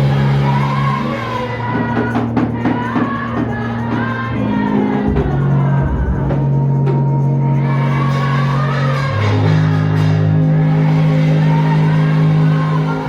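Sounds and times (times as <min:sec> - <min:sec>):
voices singing: 0:00.0 - 0:13.0.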